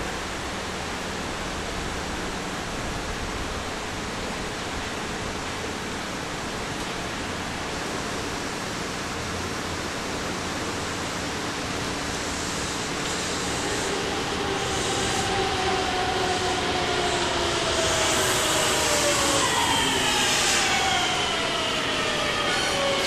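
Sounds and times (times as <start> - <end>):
electric train arriving: 0.0 - 23.0.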